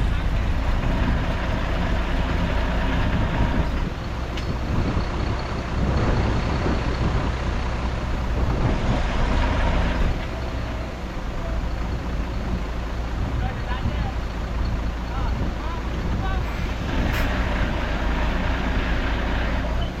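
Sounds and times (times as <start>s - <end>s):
heavy diesel machinery engine: 0.0s - 20.0s.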